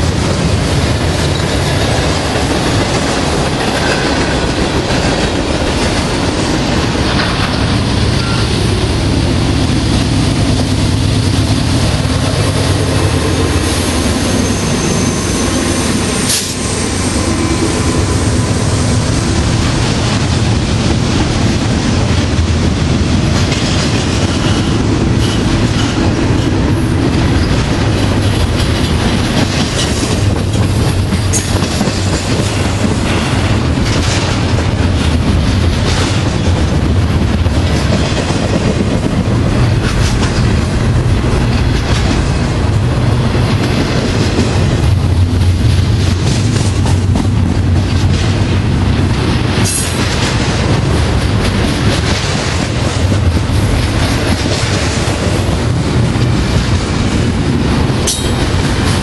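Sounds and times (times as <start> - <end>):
wheels clicking over rail joints: 0.0 - 14.4, 19.4 - 59.0
freight train passing: 0.0 - 59.0.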